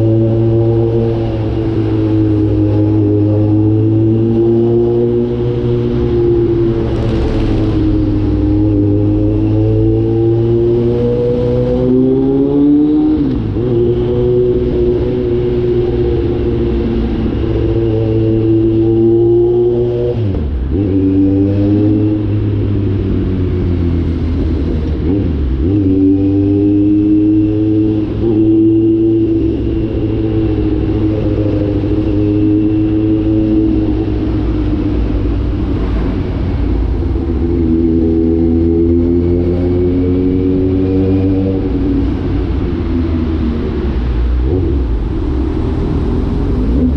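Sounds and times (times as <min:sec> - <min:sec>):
motorcycle engine revving and shifting: 0:00.0 - 0:46.9.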